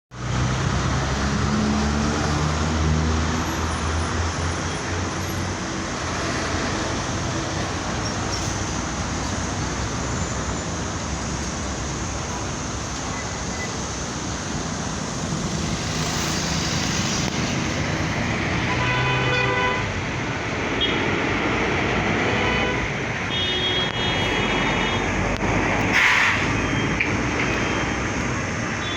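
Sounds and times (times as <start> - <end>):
road traffic: 0.1 - 28.9.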